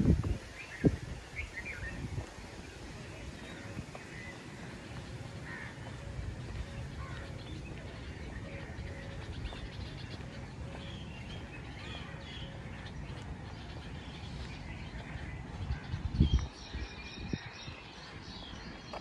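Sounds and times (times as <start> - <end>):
birds calling: 0.4 - 19.0.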